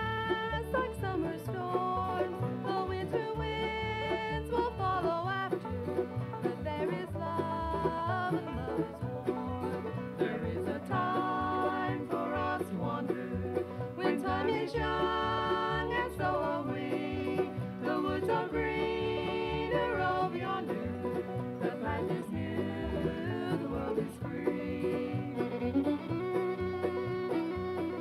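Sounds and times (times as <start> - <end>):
bluegrass string band music: 0.0 - 28.0.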